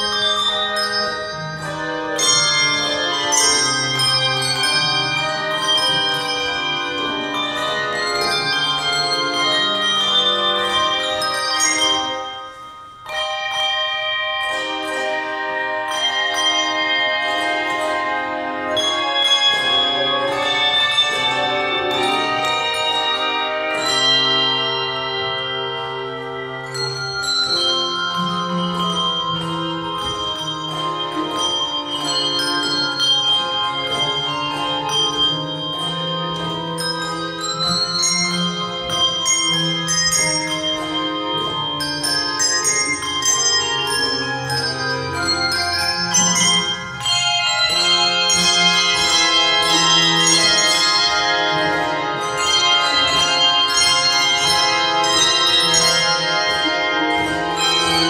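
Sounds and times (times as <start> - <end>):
handbells ringing: 0.0 - 58.0
long low bell notes: 0.0 - 58.0.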